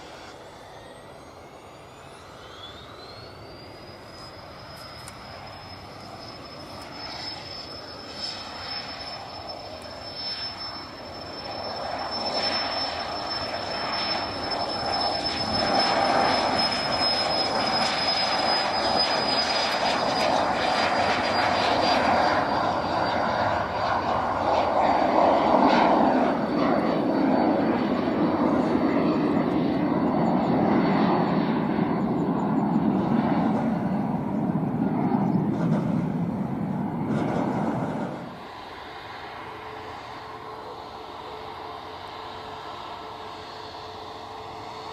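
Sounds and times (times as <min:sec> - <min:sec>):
jet engines at high power: 0:00.0 - 0:44.9
thin high engine whine: 0:00.0 - 0:44.9.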